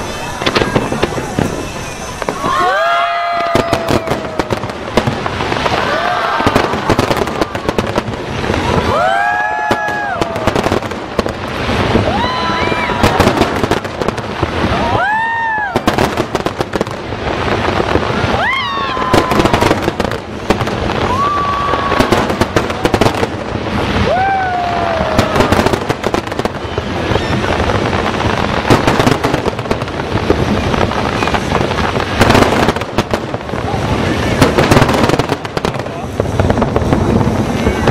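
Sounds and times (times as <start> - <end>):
fireworks crackling and banging: 0.0 - 37.9.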